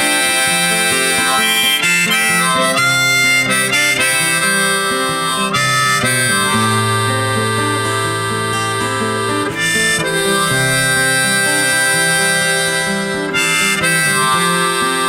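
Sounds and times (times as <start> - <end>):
guitar: 0.0 - 15.0
harmonica: 0.0 - 15.0.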